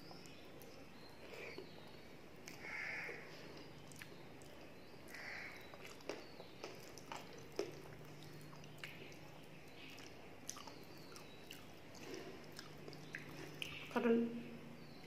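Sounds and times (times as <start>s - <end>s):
chewing soft food: 0.0s - 14.0s
faint low hum: 0.0s - 15.0s.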